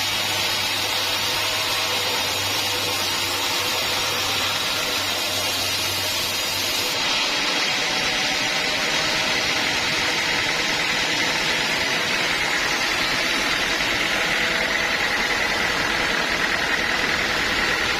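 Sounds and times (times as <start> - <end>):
sawmill saw running: 0.0 - 17.9.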